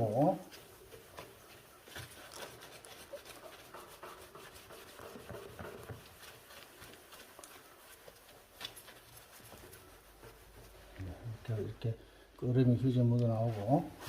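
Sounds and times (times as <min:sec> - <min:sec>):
tissue scrubbing glass door: 0:00.0 - 0:11.9, 0:12.6 - 0:14.0.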